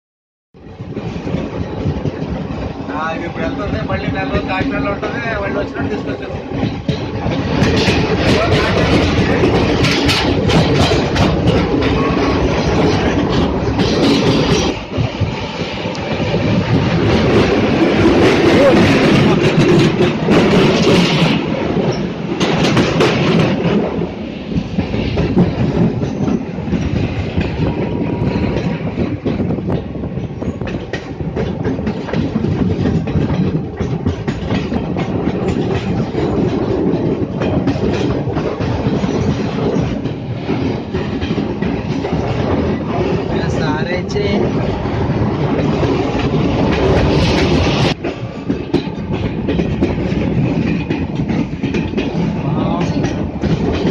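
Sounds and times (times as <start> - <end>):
train wheels clattering on rails: 0.6 - 53.9.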